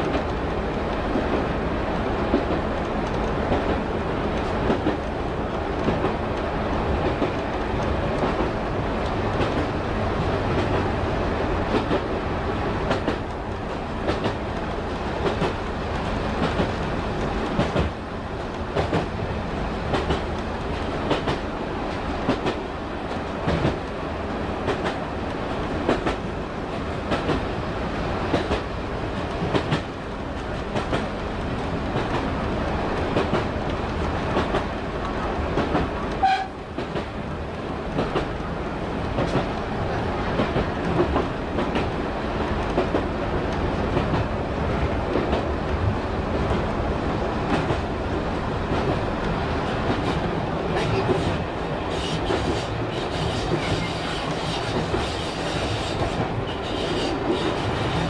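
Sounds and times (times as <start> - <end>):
train running drone: 0.0 - 58.0.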